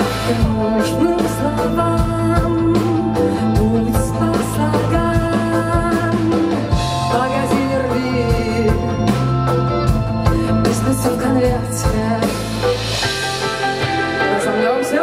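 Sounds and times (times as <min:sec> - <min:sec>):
person singing: 0:00.0 - 0:15.0
rock band playing live: 0:00.0 - 0:15.0.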